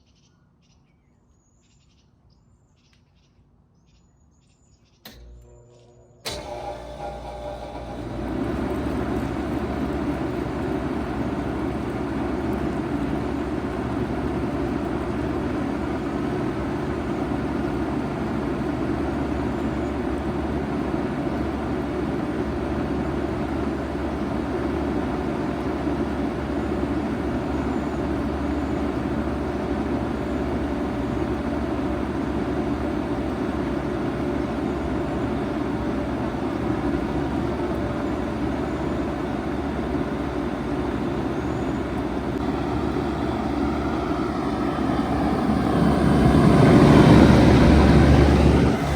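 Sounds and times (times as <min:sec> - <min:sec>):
heat pump humming: 0:05.1 - 0:48.9.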